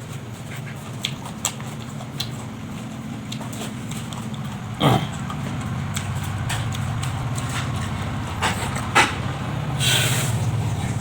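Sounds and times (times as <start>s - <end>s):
chewing and mouth clicks: 0.0s - 9.7s
steady low hum: 0.0s - 11.0s.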